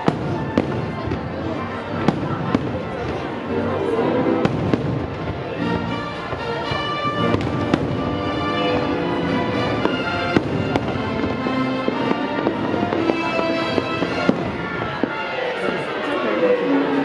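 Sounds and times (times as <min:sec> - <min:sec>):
fireworks bangs: 0:00.0 - 0:05.6, 0:06.2 - 0:16.2
fireworks show music: 0:00.0 - 0:17.0.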